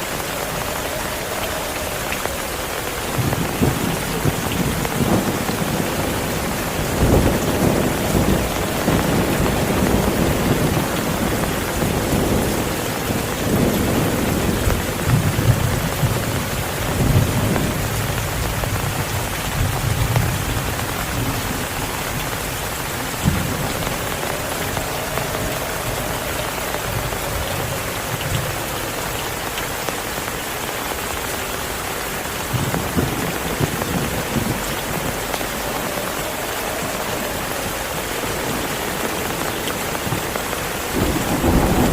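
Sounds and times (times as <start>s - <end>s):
rolling thunder: 0.0s - 29.8s, 32.4s - 41.9s
heavy rain: 0.0s - 41.9s.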